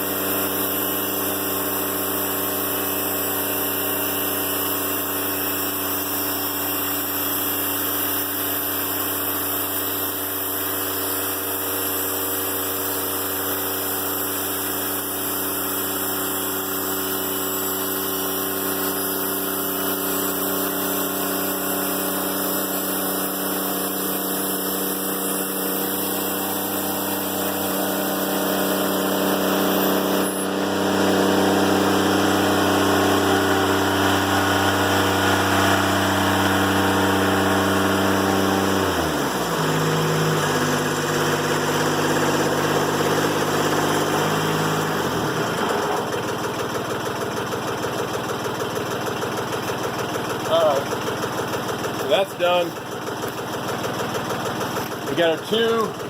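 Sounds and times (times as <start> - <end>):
sawmill diesel engine running: 0.0 - 56.0.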